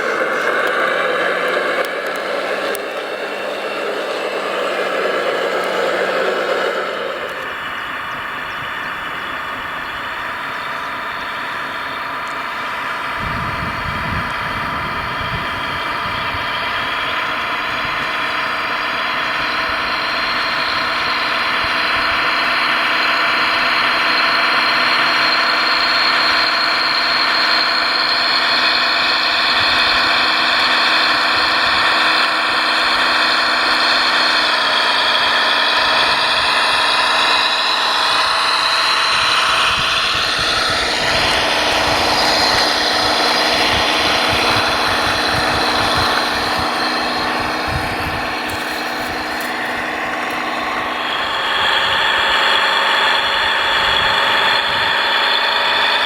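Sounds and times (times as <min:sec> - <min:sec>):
model machine motor whining hum: 0:00.0 - 0:56.0.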